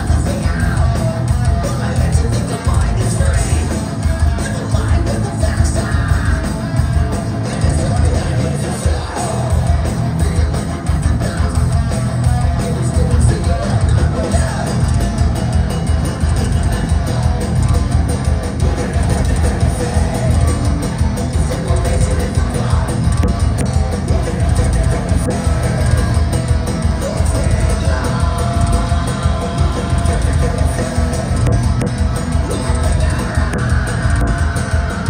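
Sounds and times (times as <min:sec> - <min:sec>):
bass guitar: 0:00.0 - 0:35.0
distorted electric guitars: 0:00.0 - 0:35.0
pounding drum kit: 0:00.0 - 0:35.0.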